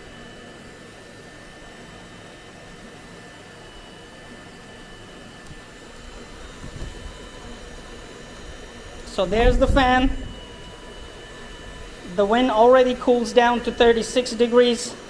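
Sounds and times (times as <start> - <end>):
small fan whirring with high whine: 0.0 - 15.0.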